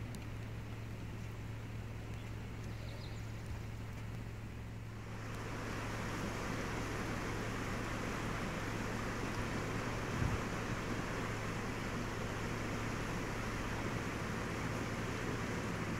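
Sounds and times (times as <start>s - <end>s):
constant low hum: 0.0s - 15.9s
creek rushing: 0.0s - 15.9s.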